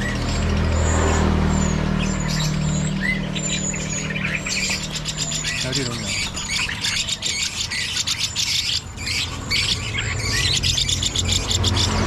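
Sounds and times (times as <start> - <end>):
songbirds chirping and squawking: 0.0 - 12.0.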